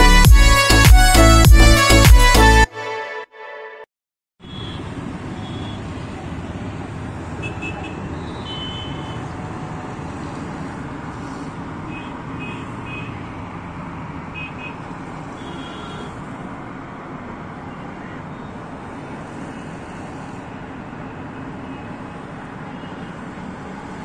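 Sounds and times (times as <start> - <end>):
city road traffic: 0.0 - 2.7, 4.4 - 24.0.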